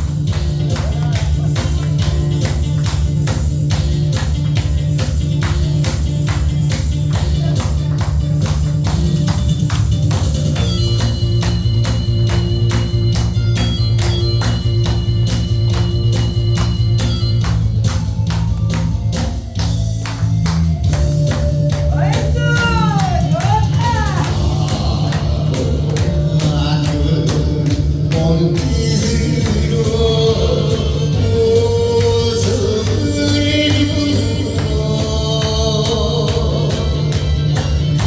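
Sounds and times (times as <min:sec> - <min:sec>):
drum beat and bass line: 0:00.0 - 0:38.0.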